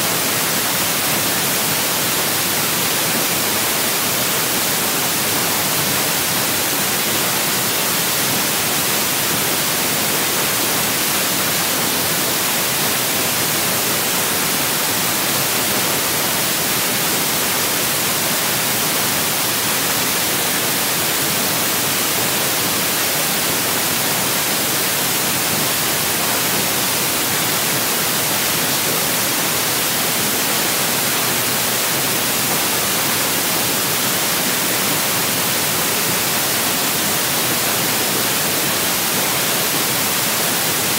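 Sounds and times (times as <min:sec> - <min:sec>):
recording static hiss: 0:00.0 - 0:40.9.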